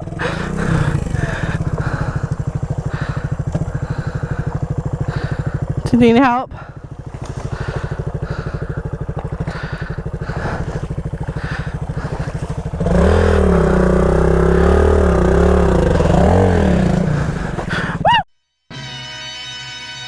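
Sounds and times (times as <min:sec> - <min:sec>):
dirt bike engine idling and revving: 0:00.0 - 0:18.3.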